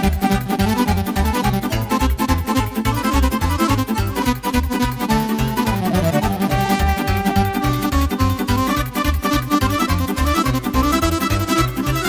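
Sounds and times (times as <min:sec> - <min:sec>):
folk dance tune on keyboard: 0:00.0 - 0:12.0.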